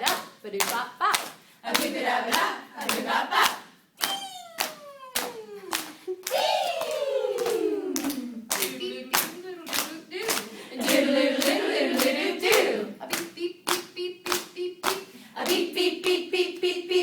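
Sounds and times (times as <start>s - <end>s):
hands clapping a steady beat: 0.0s - 16.8s
person singing wordlessly: 0.0s - 17.0s.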